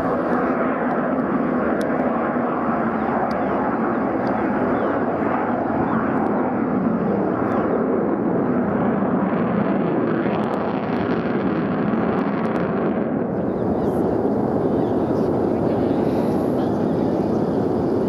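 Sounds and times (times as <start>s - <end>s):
jet plane flying overhead: 0.0s - 18.0s.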